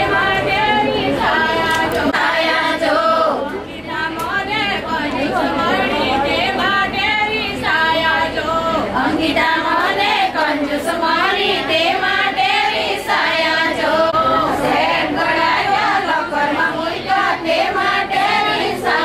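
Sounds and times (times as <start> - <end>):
women singing in chorus: 0.0 - 19.0.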